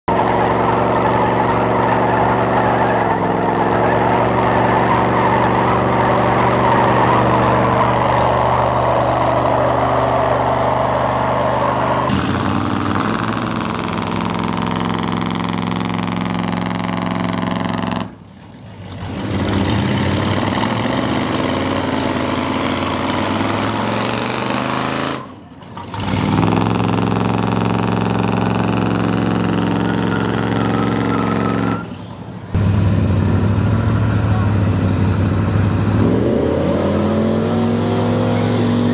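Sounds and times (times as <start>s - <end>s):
pickup truck engines revving high: 0.0s - 38.9s.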